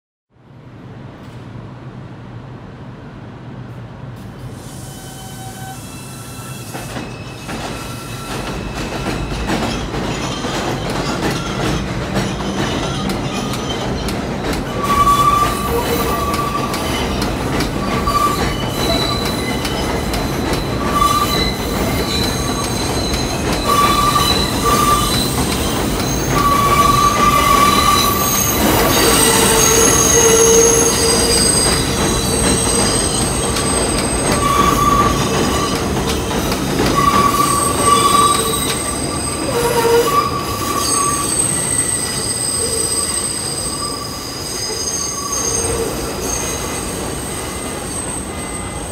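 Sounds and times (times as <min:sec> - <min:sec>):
train rumble: 0:00.5 - 0:48.9
train wheels squealing on rails: 0:04.2 - 0:48.9.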